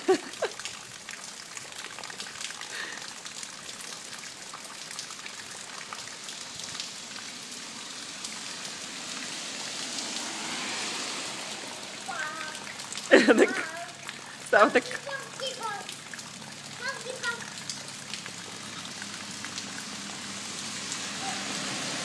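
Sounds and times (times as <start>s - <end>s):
steady rain on concrete: 0.0s - 22.0s.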